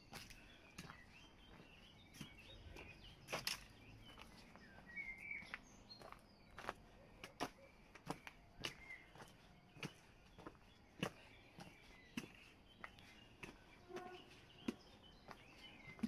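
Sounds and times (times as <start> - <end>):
faint bird chirps: 0.0 - 16.0
footsteps on stony dirt path: 0.0 - 16.0.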